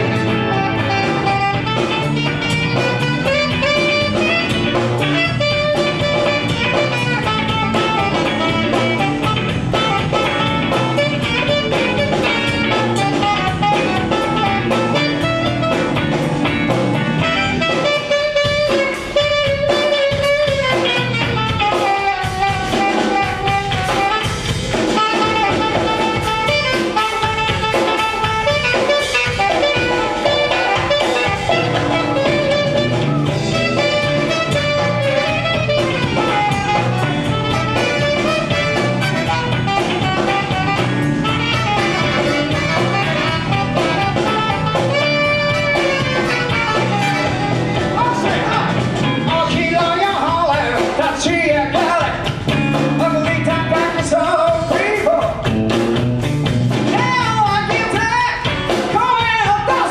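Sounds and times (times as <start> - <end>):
live band playing: 0.0 - 59.9
steady drum beat: 0.0 - 59.9.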